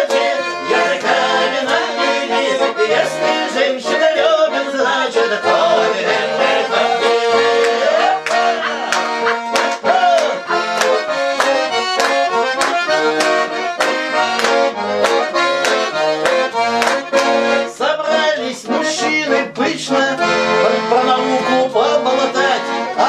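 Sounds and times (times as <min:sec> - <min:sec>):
button accordion playing folk tune: 0:00.0 - 0:23.0.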